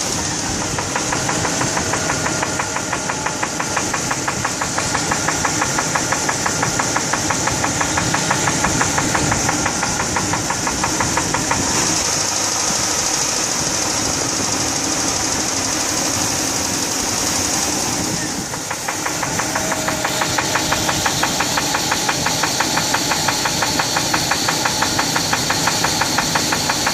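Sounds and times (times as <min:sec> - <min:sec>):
engine running with rhythmic knock: 0:00.0 - 0:26.9.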